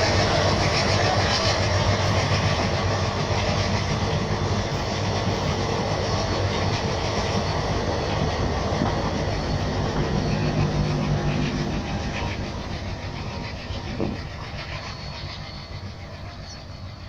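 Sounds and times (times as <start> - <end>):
train rumbling along rails: 0.0 - 17.0.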